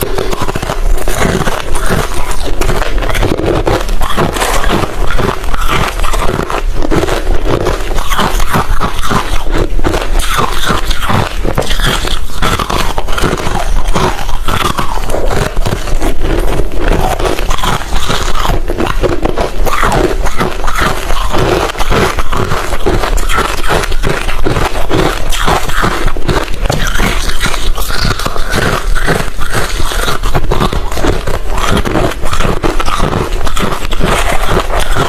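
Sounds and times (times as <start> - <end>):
crushed ice being chewed: 0.0 - 35.0.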